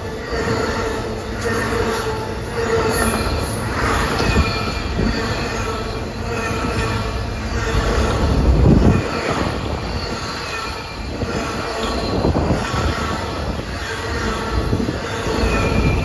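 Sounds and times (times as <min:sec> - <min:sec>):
railroad cars rumbling past: 0:00.0 - 0:16.0
wheels squealing: 0:00.0 - 0:16.0.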